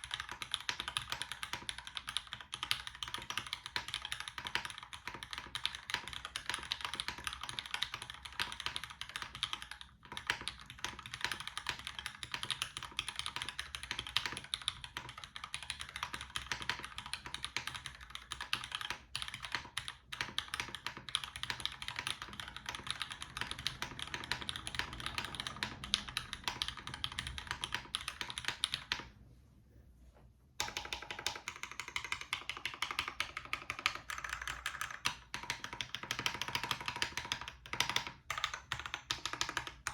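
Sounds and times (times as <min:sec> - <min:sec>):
mechanical keyboard typing: 0:00.0 - 0:29.1, 0:30.6 - 0:39.9.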